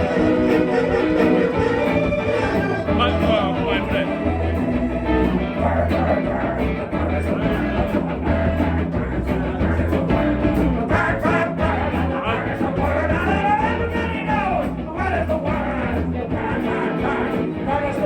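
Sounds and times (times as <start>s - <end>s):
live rock and roll band: 0.0s - 18.0s
person singing: 0.0s - 18.0s.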